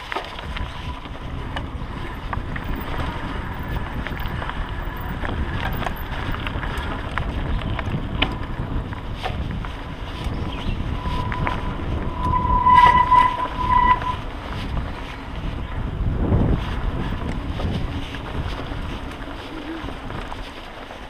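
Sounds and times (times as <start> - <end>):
wind on microphone: 0.0 - 20.8
bike rattling over bumps: 0.0 - 21.0
bike tyres rumbling on dirt: 0.0 - 21.0.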